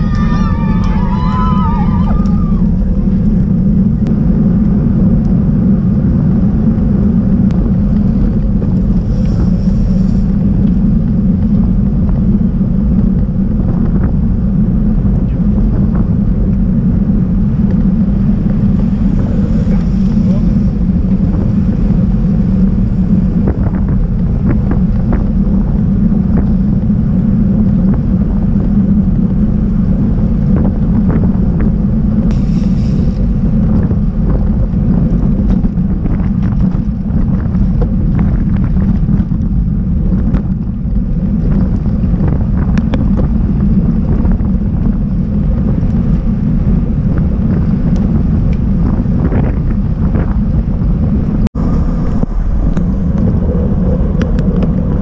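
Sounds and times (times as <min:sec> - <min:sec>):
tyres rumbling on road: 0:00.0 - 0:55.0
wind buffeting microphone: 0:00.0 - 0:55.0.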